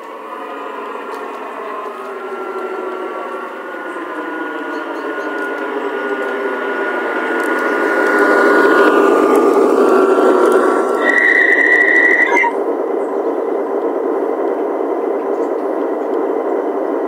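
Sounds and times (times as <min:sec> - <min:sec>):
model locomotive diesel drone: 0:00.0 - 0:17.0.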